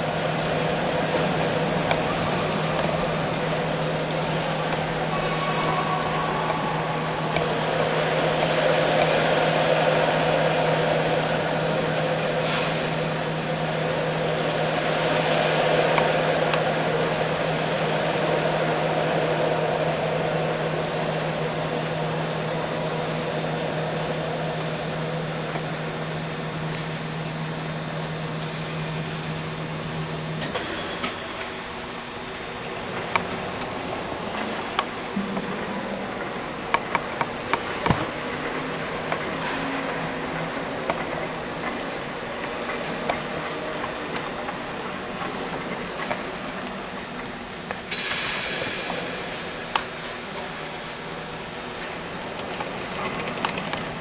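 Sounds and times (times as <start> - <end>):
electric drive motor humming: 0.0 - 47.9.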